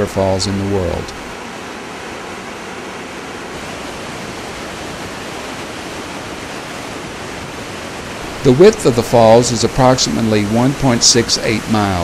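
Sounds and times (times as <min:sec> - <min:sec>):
waterfall roar: 0:00.0 - 0:12.0.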